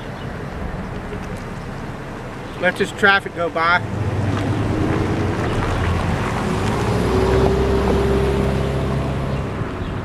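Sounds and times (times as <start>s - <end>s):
wind buffeting microphone: 0.0s - 10.0s
vehicle passing: 0.1s - 10.0s.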